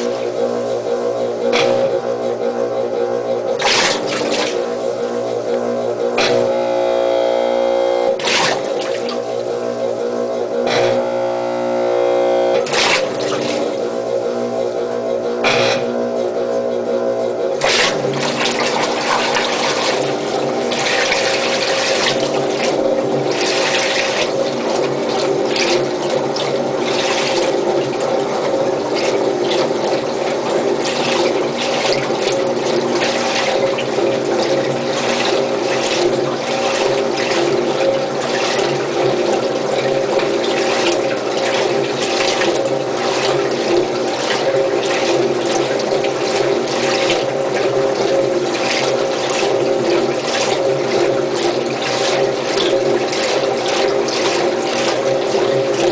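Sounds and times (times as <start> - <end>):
constant machine hum: 0.0 - 55.9
water rushing into washing machine: 0.0 - 55.9.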